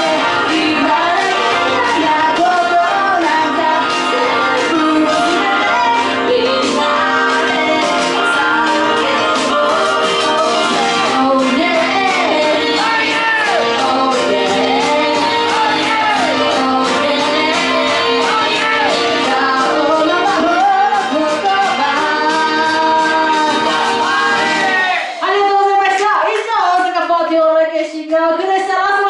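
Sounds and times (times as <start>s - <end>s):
instrumental accompaniment: 0.0s - 25.0s
woman singing pop song: 0.0s - 29.0s.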